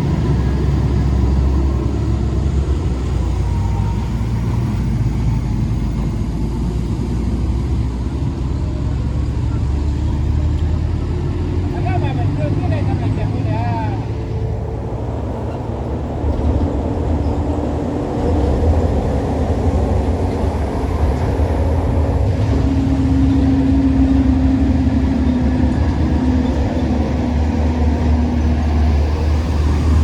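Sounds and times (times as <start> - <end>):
diesel engine rumbling uphill: 0.0 - 30.0.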